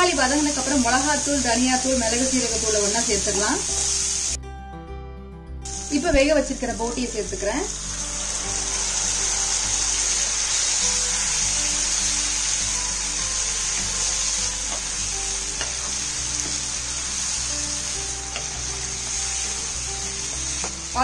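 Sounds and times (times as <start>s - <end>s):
food sizzling in a frying pan: 0.0s - 4.4s, 5.6s - 21.0s.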